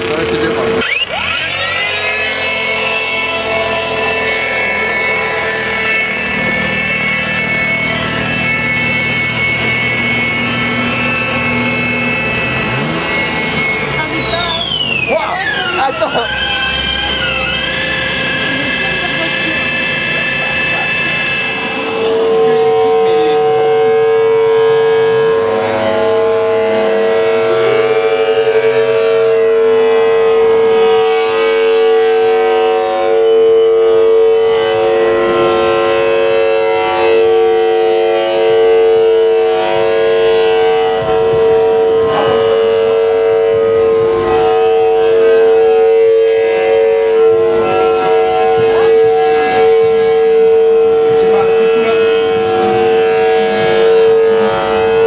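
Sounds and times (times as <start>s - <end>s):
steady electrical tone: 0.6s - 14.1s, 15.8s - 55.0s.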